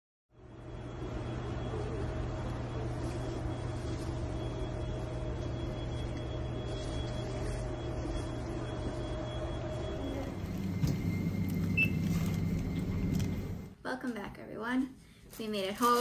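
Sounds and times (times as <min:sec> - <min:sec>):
faint steady whine: 0:00.3 - 0:13.9
low mechanical hum: 0:00.3 - 0:15.3.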